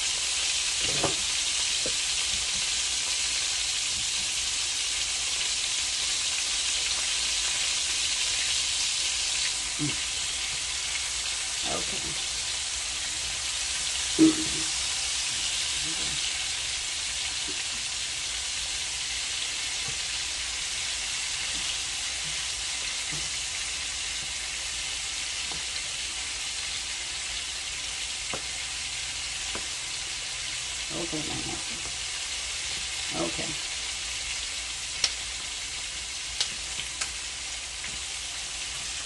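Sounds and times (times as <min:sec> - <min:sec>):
meat patties sizzling in pan: 0:00.0 - 0:39.0.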